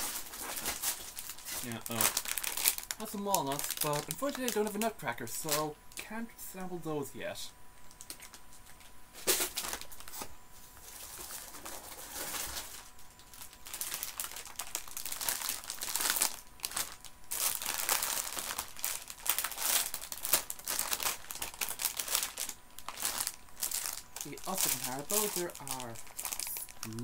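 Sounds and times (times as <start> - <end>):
sweet wrapper crinkling: 0.0 - 6.0, 7.8 - 27.0.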